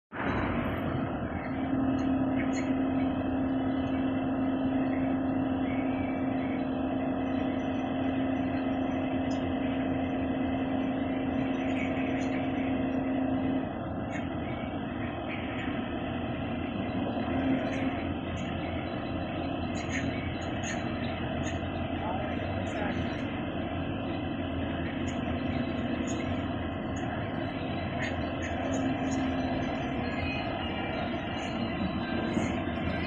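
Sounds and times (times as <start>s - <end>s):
heavy machine engine running: 0.1s - 33.0s
steady whine: 0.1s - 33.0s.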